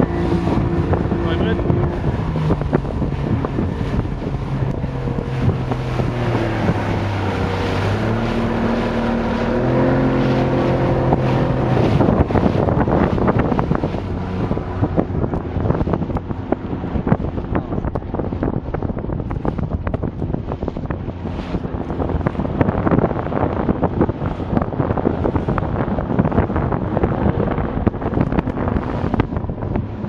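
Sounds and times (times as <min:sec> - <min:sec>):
speedboat engine running: 0:00.0 - 0:30.0
wind buffeting microphone: 0:00.0 - 0:30.0.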